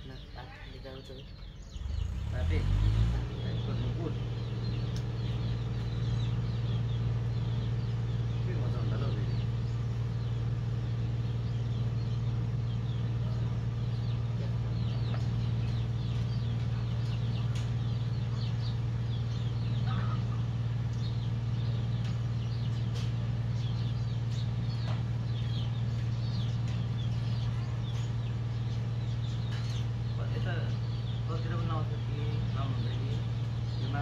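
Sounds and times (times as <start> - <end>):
chickens clucking: 0.0 - 34.0
small birds chirping: 0.0 - 34.0
steady low hum: 0.0 - 34.0.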